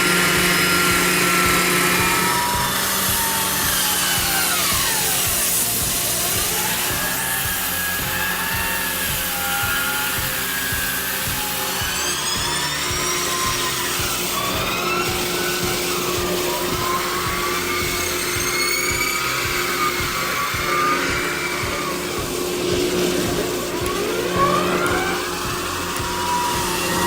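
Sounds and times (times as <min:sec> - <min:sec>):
background music with steady beat: 0:00.0 - 0:27.0
machine whine: 0:00.0 - 0:27.0.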